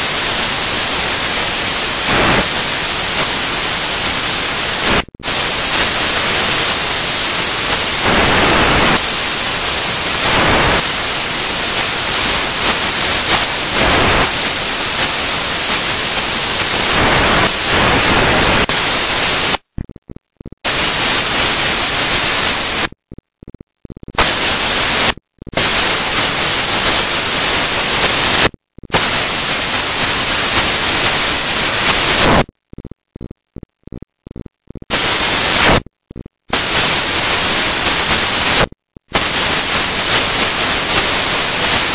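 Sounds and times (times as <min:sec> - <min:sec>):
loud static hiss: 0:00.0 - 0:41.9.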